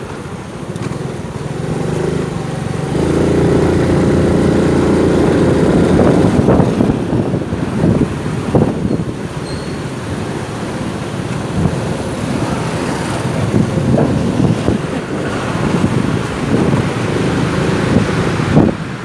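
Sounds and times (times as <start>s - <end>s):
motorcycle engine: 0.0s - 19.0s
wind buffeting microphone: 2.2s - 19.0s.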